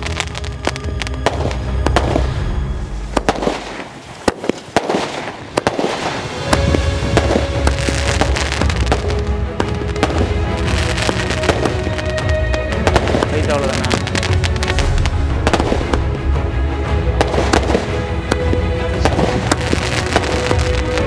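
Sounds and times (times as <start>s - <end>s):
background music: 0.0s - 21.0s
fireworks bangs and crackling: 0.0s - 21.0s.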